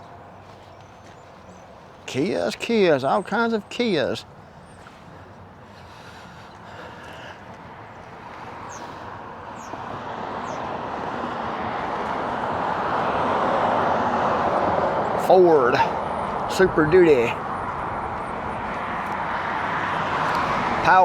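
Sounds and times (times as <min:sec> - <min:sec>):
passing vehicle road noise: 0:03.9 - 0:21.0.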